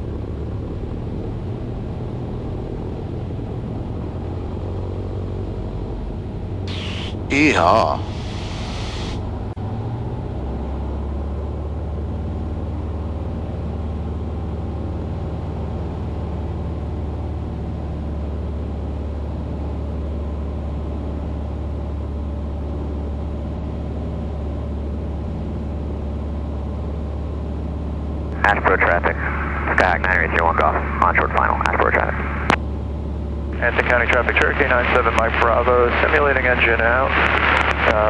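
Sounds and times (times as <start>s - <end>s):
aircraft engine and propeller drone: 0.0s - 38.0s.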